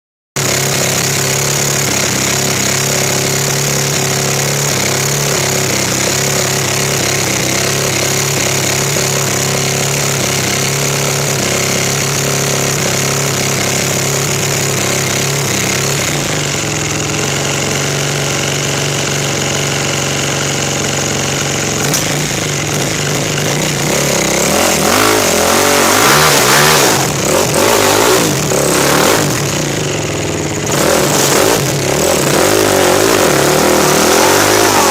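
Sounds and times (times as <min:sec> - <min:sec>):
motorcycle engine revving: 0:00.4 - 0:34.9.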